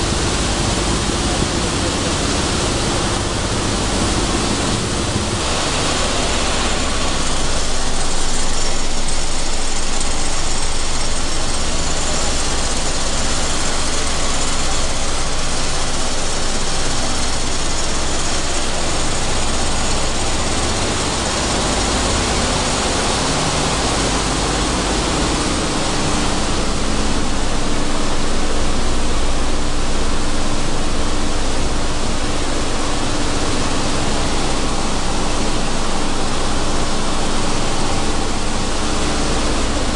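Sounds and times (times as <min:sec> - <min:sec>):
seed hulling machine running: 0:00.0 - 0:39.9.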